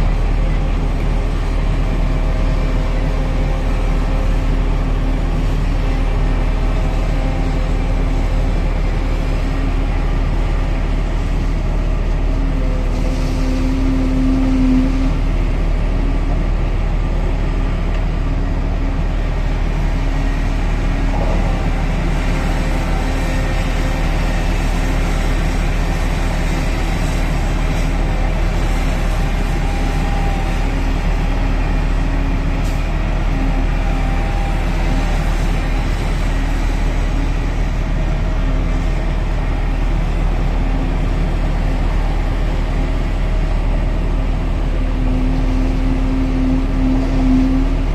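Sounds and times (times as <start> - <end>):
excavator diesel engine drone: 0.0 - 47.9.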